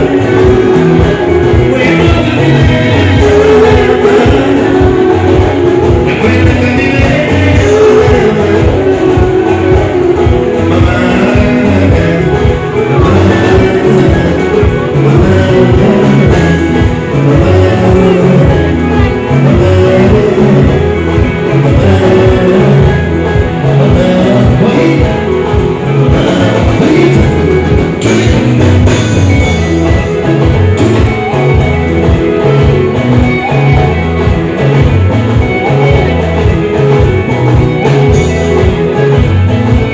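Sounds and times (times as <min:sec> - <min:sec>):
bass line: 0:00.0 - 0:39.9
drums: 0:00.0 - 0:39.9
electric guitar picking: 0:00.0 - 0:39.9
live band music: 0:00.0 - 0:39.9
person singing: 0:00.0 - 0:39.9.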